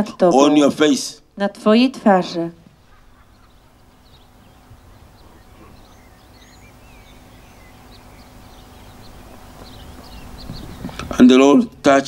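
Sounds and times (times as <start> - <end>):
low outdoor rumble: 0.0 - 12.0
small birds chirping: 0.0 - 12.0
thin steady hum: 0.0 - 12.0.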